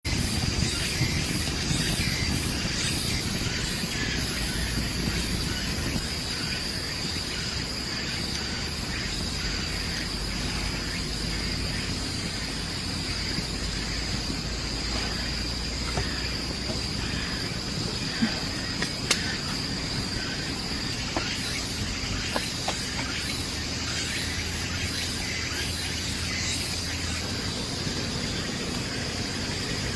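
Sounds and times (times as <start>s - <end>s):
insects droning: 0.0s - 29.9s
low outdoor rumble: 0.0s - 29.9s.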